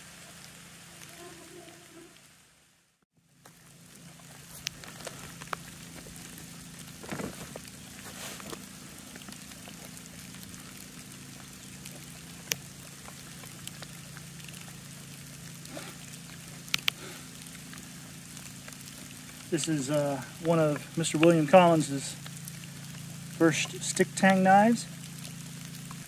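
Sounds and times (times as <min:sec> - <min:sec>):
low hum: 0:00.0 - 0:26.0
outdoor hiss: 0:00.0 - 0:26.0.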